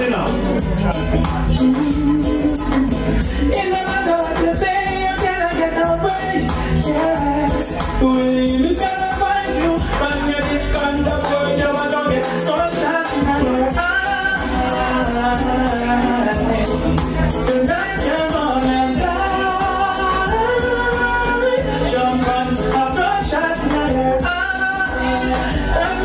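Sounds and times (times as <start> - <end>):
dancehall music with singing: 0.0 - 26.0.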